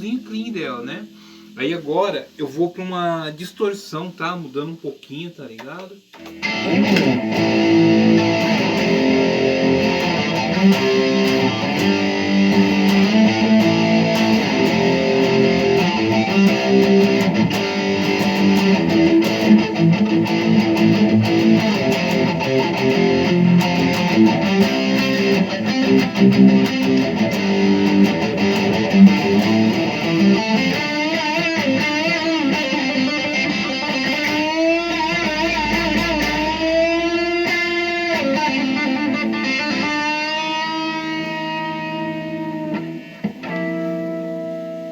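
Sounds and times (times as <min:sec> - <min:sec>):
distorted electric guitar: 0:05.6 - 0:44.9.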